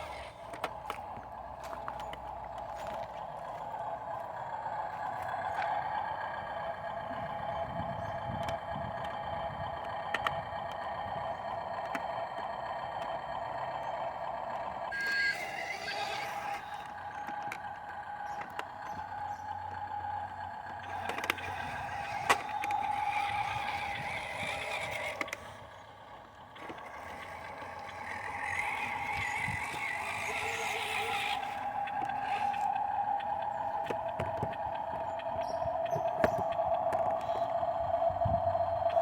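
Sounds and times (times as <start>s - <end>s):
dump truck mechanical whine: 0.0s - 39.0s.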